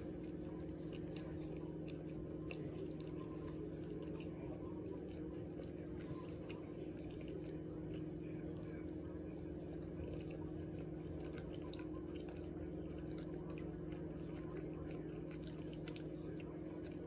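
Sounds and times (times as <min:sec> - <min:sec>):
steady low hum: 0:00.0 - 0:17.0
wet chewing and mouth smacks: 0:00.0 - 0:17.0.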